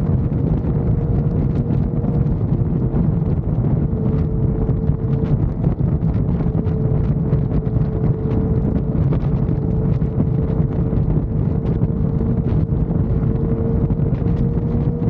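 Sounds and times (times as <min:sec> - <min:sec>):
motorcycle engine at speed: 0:00.0 - 0:15.0
wind buffeting microphone: 0:00.0 - 0:15.0.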